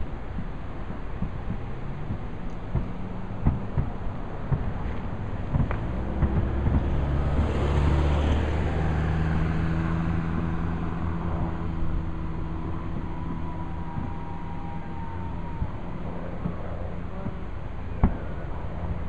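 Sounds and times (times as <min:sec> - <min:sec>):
fireworks cracks and booms: 0:00.0 - 0:19.0
low droning tone: 0:00.0 - 0:19.0.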